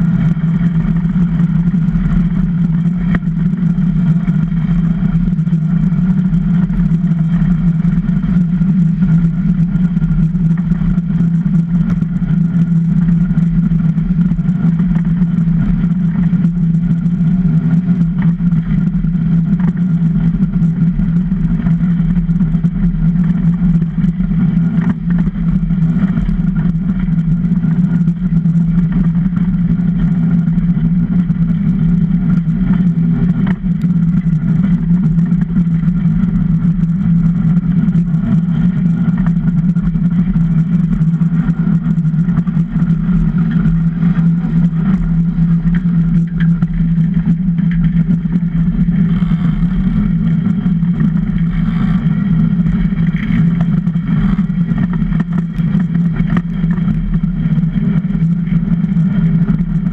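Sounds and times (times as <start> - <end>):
steel runners rumbling over ice: 0.0 - 59.9.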